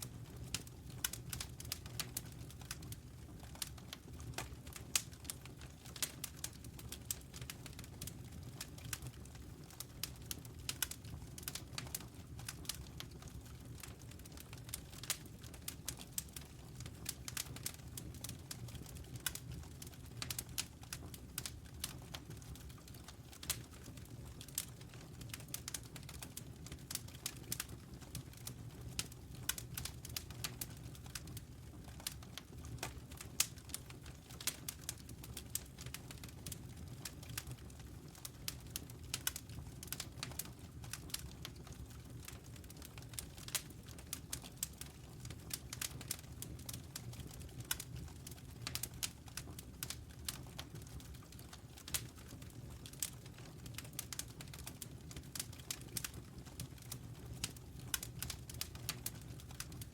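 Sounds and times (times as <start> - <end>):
low rumble of burning fire: 0.0 - 59.9
campfire crackling and popping: 0.2 - 59.9.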